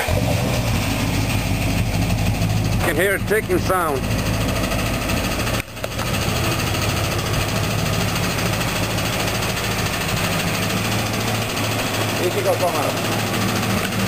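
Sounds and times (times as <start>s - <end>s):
car engine idling with ticking: 0.0s - 14.0s.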